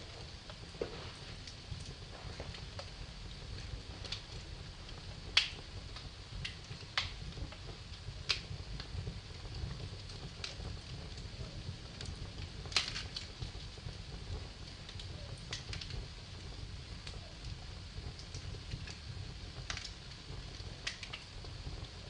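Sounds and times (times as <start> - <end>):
sharp pops of fire: 0.0 - 22.0
steady low rumble: 0.0 - 22.0
wood fire crackling: 0.0 - 22.0.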